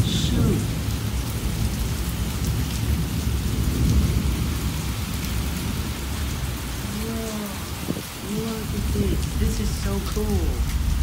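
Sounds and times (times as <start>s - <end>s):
low rumble of thunder: 0.0s - 11.0s
rain falling: 0.0s - 11.0s.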